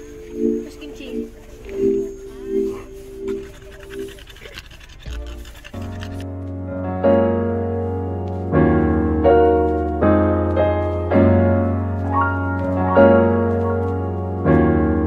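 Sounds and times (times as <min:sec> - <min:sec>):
piano chords: 0:00.0 - 0:04.1, 0:05.8 - 0:15.0.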